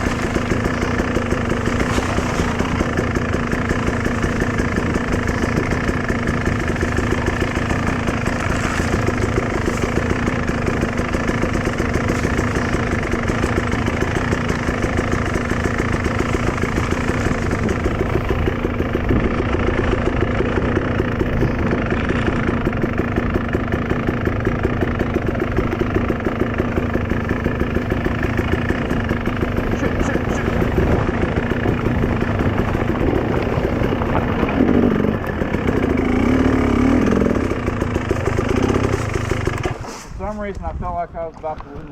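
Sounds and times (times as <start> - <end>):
dirt bike engine idling: 0.0 - 41.9.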